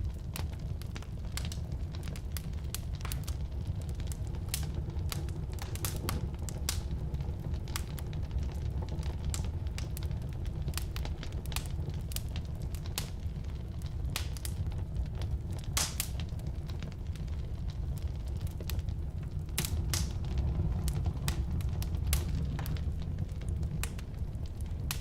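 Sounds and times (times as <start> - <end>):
firewood burning and crackling: 0.0 - 25.0.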